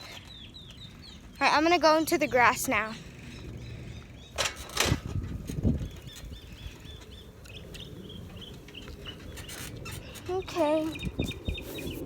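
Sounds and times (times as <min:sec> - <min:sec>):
bird chirping: 0:00.0 - 0:04.8, 0:05.5 - 0:12.0.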